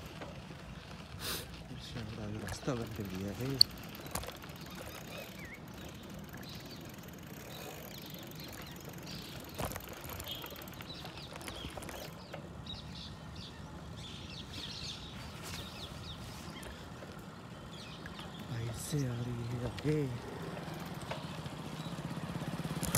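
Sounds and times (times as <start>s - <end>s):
bicycle rumble on dirt track: 0.0s - 22.9s
birds chirping: 0.0s - 22.9s.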